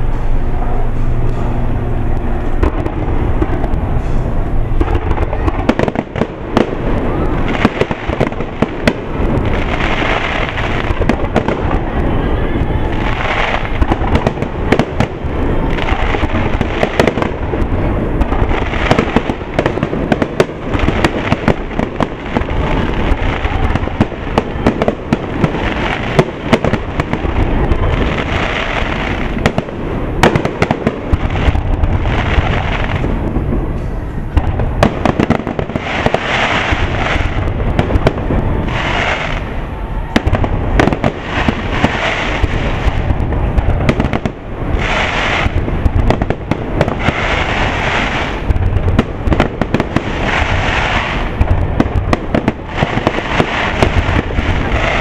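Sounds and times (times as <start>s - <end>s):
fireworks bursting with sharp bangs: 0.0s - 55.0s.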